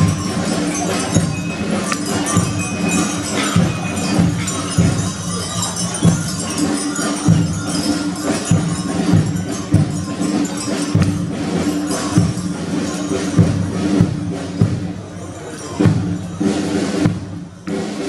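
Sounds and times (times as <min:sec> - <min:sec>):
drum beat: 0:00.0 - 0:18.0.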